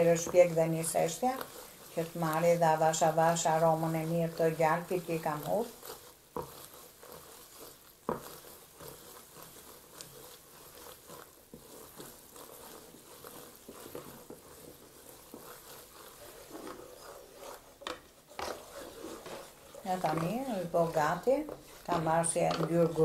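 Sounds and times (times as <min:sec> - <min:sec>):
wooden spoon scraping metal bowl: 0:00.0 - 0:23.0.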